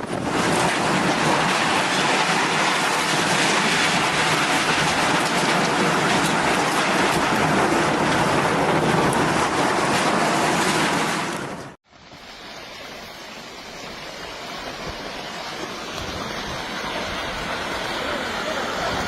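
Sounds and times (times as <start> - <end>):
dense rushing noise: 0.0 - 19.0.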